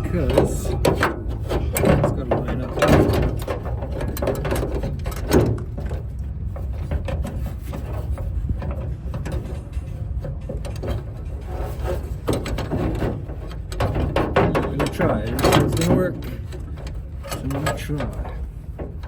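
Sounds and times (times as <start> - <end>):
lock parts clicking and rattling: 0.0 - 6.1, 8.6 - 19.0
steady low rumble: 0.0 - 19.0.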